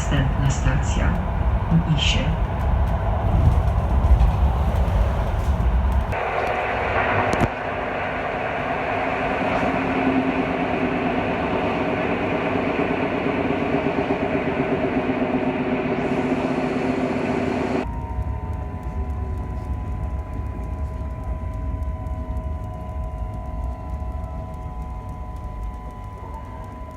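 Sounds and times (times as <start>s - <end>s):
deep rumble: 0.0s - 26.9s
train running: 0.0s - 26.9s.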